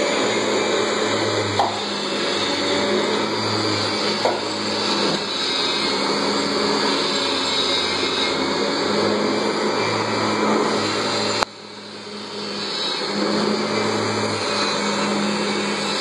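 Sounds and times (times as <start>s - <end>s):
vacuum cleaner motor humming: 0.0s - 16.0s.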